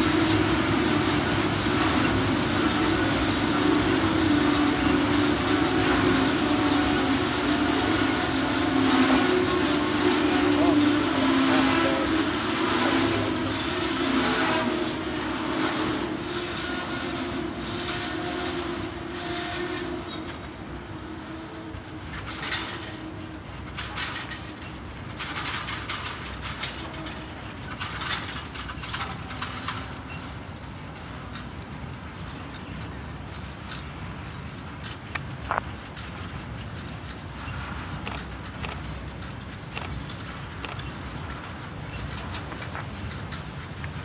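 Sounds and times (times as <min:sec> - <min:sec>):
freight train rolling on rails: 0:00.0 - 0:44.0
train wheel squeal: 0:00.0 - 0:44.0.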